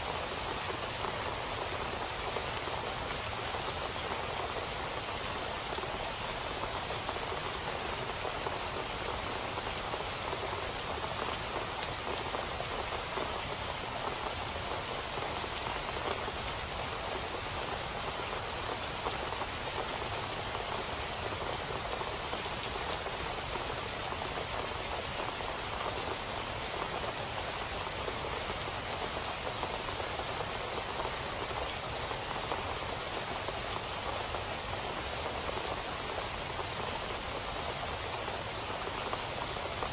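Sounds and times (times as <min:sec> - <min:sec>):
rain on wet pavement: 0:00.0 - 0:39.9.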